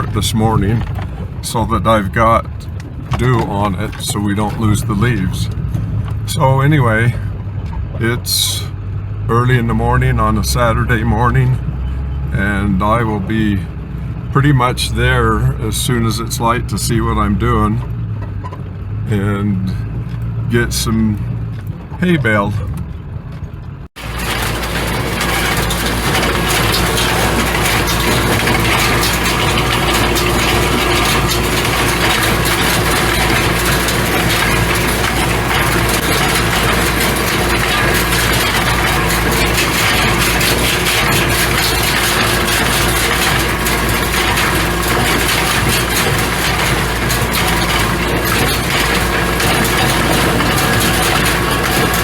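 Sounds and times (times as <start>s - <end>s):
hay baler mechanical clatter: 0.0s - 52.0s
tractor engine running: 0.0s - 52.0s.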